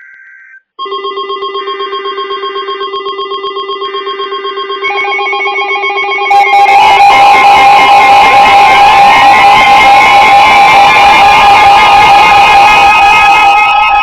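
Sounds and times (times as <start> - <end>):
pulsing electronic alert beeping: 0.0 - 14.0.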